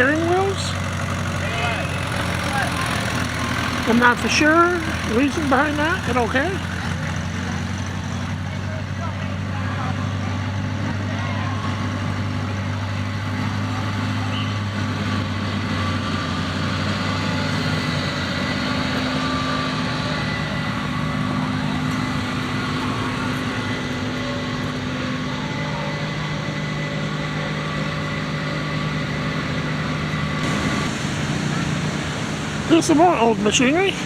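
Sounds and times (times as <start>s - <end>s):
engine running at low speed: 0.0s - 34.0s.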